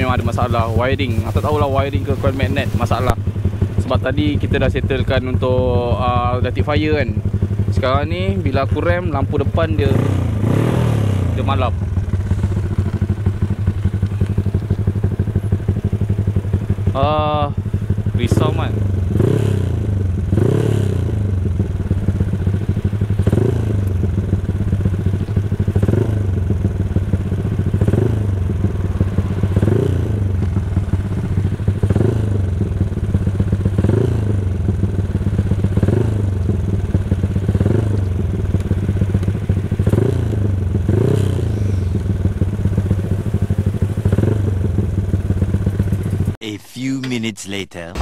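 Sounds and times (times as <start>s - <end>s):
motorcycle engine idling: 0.0s - 46.4s.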